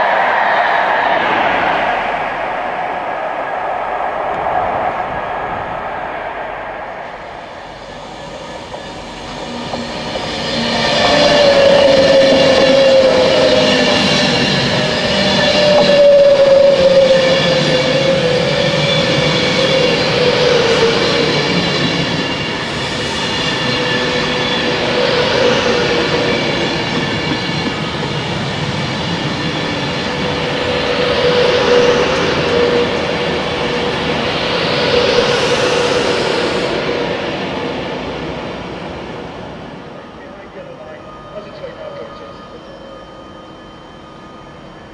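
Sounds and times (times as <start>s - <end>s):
electric train passing at speed: 0.0s - 44.9s
traction equipment whine: 4.2s - 44.9s.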